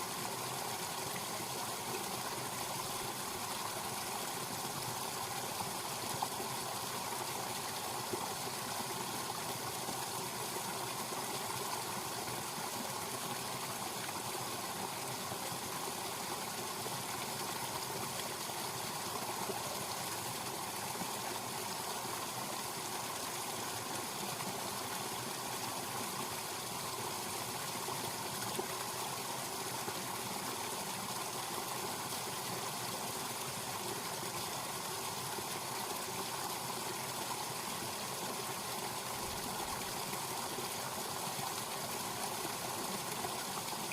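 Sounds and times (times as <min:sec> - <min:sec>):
stream flowing: 0:00.0 - 0:43.9.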